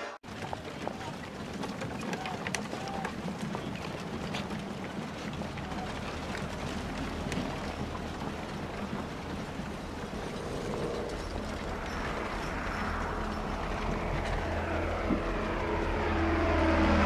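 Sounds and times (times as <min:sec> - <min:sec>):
low engine rumble: 0:00.2 - 0:17.0.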